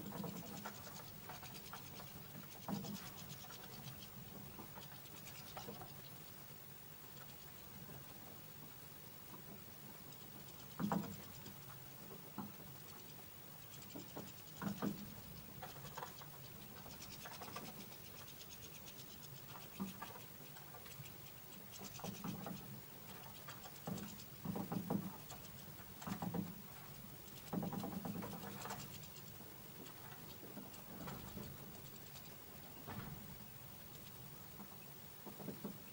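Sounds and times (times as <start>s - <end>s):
birds pecking at seeds: 0.0s - 35.9s.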